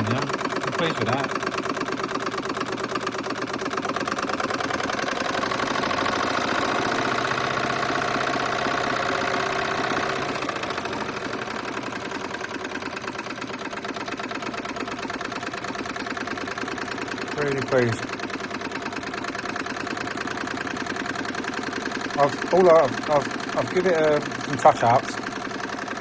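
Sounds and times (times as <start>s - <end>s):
model steam engine chuffing: 0.0s - 26.0s.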